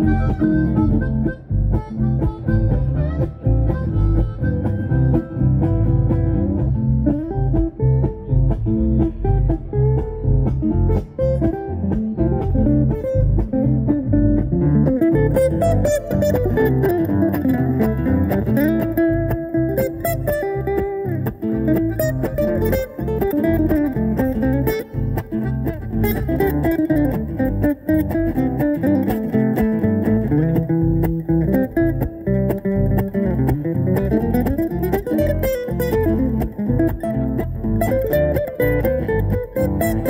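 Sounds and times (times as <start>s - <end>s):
acoustic swing band: 0.0s - 40.0s
guitar picking melodic runs: 0.0s - 40.0s.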